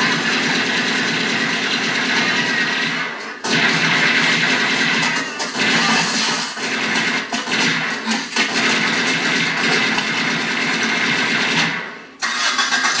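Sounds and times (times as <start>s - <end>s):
film soundtrack from television: 0.0s - 13.0s.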